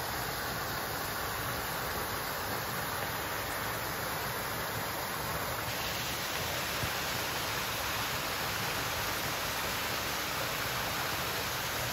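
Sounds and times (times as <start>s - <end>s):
waterfall over rocks: 0.0s - 11.9s.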